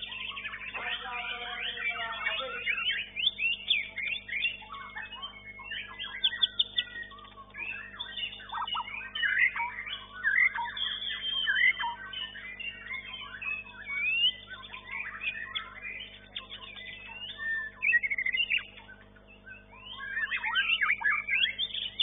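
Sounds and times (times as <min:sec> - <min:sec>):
bird singing whistled song: 0:00.0 - 0:22.0
steady low hum: 0:00.0 - 0:22.0.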